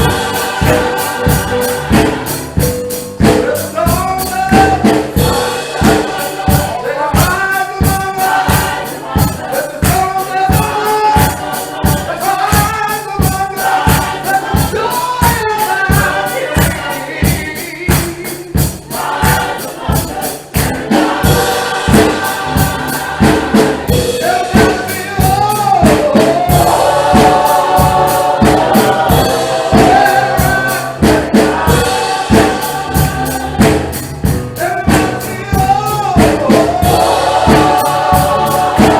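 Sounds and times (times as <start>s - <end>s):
choir singing gospel: 0.0s - 38.9s
percussive beat: 0.0s - 38.9s.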